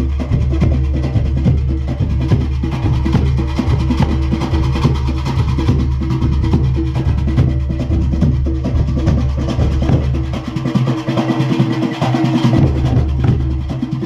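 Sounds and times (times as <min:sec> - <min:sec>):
drums beating fast rhythm: 0:00.0 - 0:14.0.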